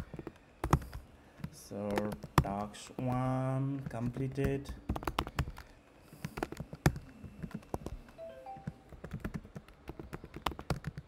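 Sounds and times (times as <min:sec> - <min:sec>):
typing on a keyboard: 0:00.0 - 0:01.0, 0:01.8 - 0:11.0.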